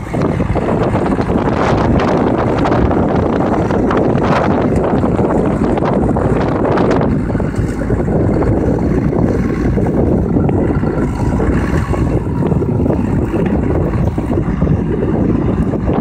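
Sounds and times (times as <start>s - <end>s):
tractor diesel engine under load: 0.0s - 16.0s
wind buffeting microphone: 0.0s - 16.0s.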